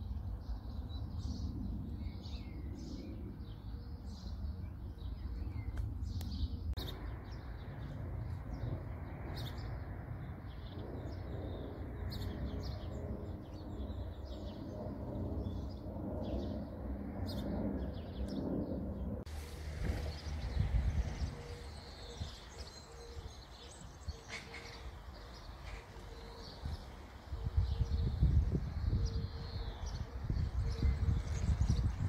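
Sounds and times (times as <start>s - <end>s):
low outdoor rumble: 0.0s - 26.0s
songbirds chirping: 0.0s - 32.0s.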